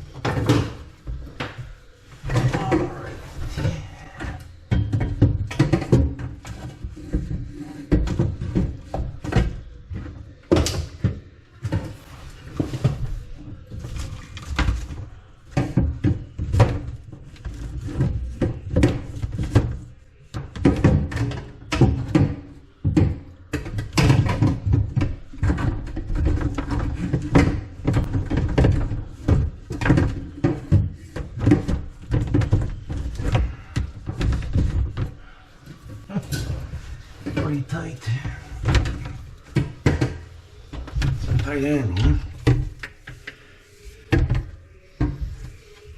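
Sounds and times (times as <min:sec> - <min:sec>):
knocks and clatter of hand work: 0:00.0 - 0:45.9.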